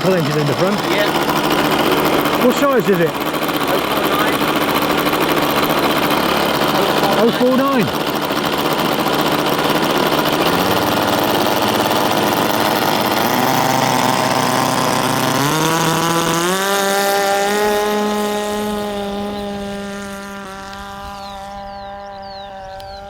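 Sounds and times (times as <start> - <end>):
model aircraft engine whining: 0.0 - 23.0.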